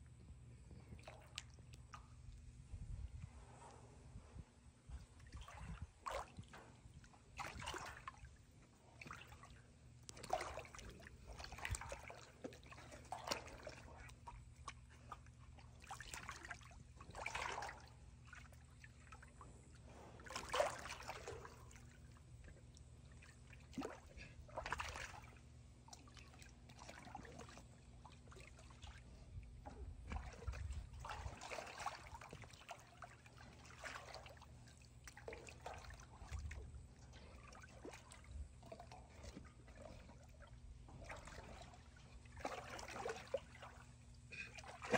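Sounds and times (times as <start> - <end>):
pool water splashing: 5.2 - 44.9.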